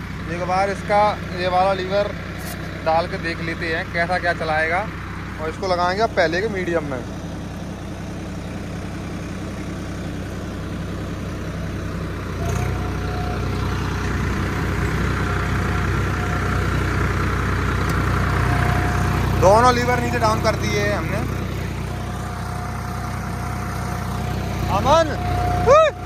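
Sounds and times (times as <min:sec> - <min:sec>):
steady mechanical whine: 0:00.0 - 0:26.0
tractor diesel engine running: 0:00.0 - 0:26.0.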